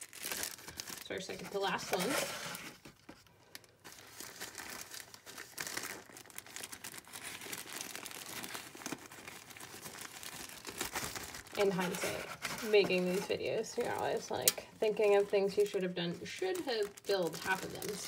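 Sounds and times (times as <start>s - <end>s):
plastic bag and newspaper crinkling: 0.0s - 18.0s.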